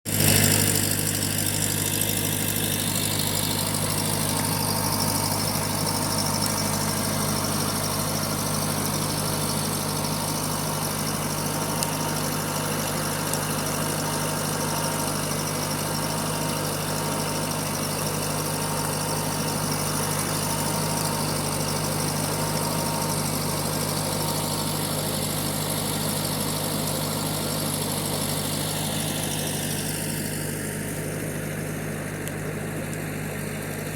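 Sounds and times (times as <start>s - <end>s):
skid steer engine idling: 0.0s - 33.9s.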